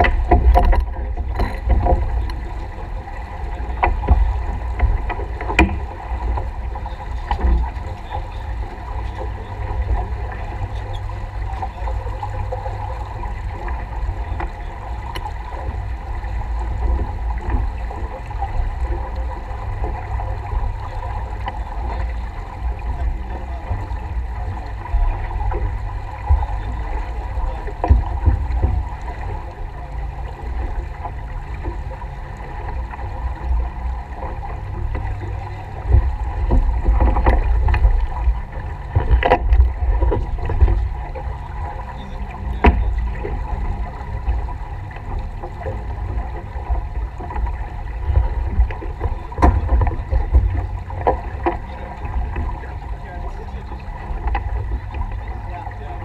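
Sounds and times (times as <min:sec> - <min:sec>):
water rushing along hull: 0:00.0 - 0:56.0
wind buffeting microphone: 0:00.0 - 0:56.0.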